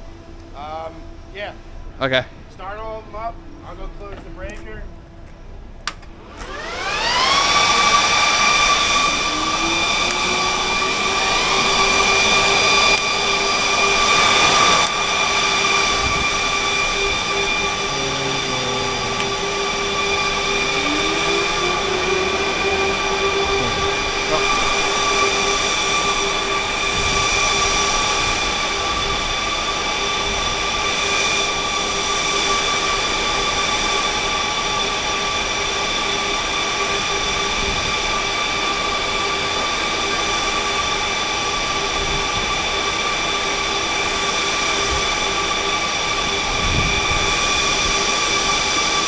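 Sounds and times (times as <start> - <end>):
cooling fans running loud: 0.0 - 49.0.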